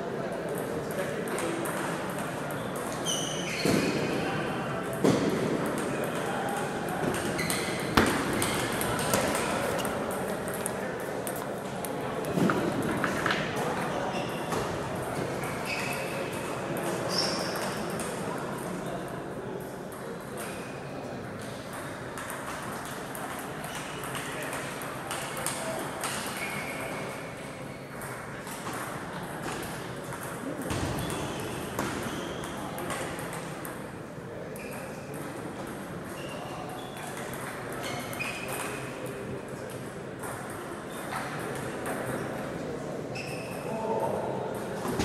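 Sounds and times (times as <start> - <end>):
table tennis balls bouncing: 0.3 - 18.7, 21.3 - 42.5.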